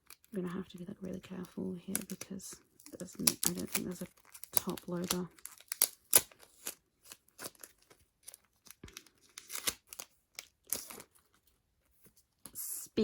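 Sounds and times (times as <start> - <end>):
foil crinkling and tearing: 0.1 - 11.4.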